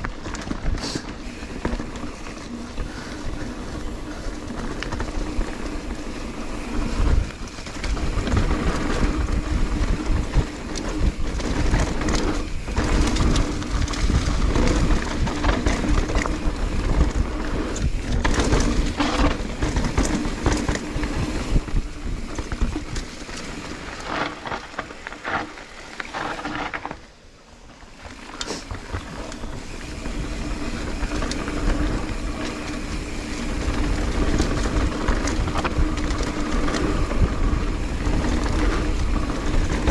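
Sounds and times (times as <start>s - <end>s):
bike knocks and rattles: 0.0s - 27.1s, 27.8s - 39.9s
bike tyre rumble: 0.0s - 39.9s
wind: 0.0s - 39.9s.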